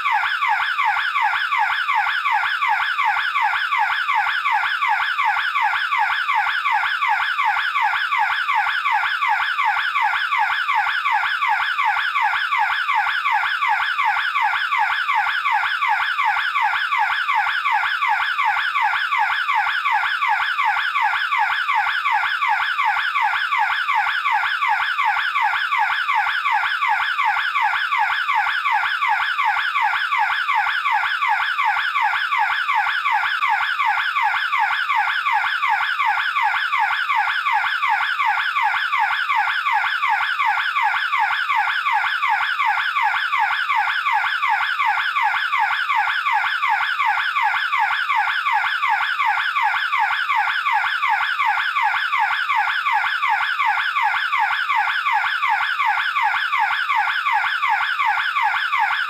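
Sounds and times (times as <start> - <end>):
warbling burglar alarm siren: 0.0 - 59.0.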